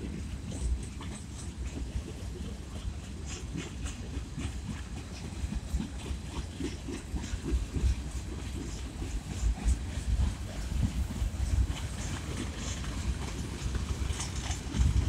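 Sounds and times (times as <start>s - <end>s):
freight train rolling on rails: 0.0s - 15.0s
wheels clicking and clanking: 0.0s - 15.0s.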